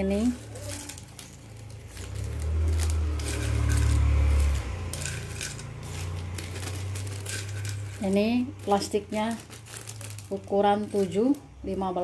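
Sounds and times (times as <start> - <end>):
crackers clinking against spoon: 0.0 - 11.6.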